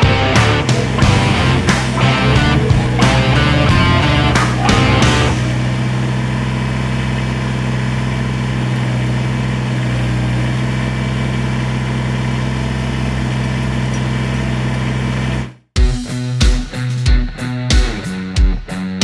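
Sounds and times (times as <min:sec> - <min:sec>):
tractor diesel engine running: 0:00.0 - 0:15.6.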